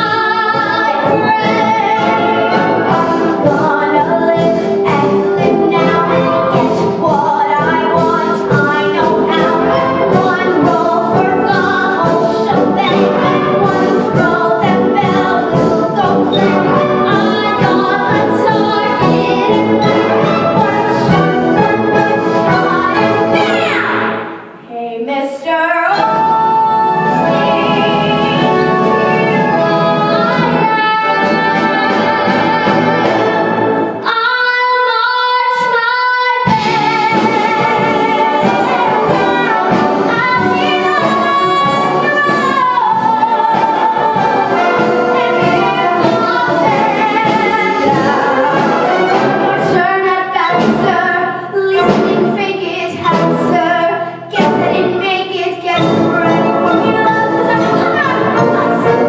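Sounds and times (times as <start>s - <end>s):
girl singing into microphone: 0.0s - 16.5s, 17.1s - 19.7s, 22.5s - 28.5s, 34.0s - 48.6s, 49.5s - 59.0s
brass band playing: 0.0s - 24.6s, 25.9s - 34.2s, 36.4s - 59.0s.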